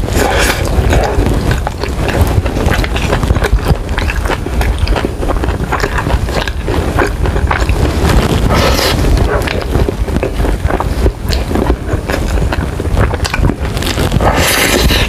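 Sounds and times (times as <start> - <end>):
chewing crunches: 0.0 - 15.0
low rumble: 0.0 - 15.0.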